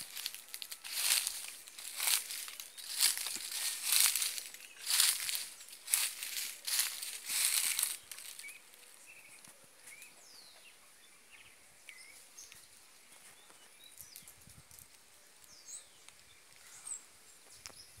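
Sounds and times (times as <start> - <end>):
background hiss: 0.0 - 18.0
faint bird chirps: 0.1 - 14.6.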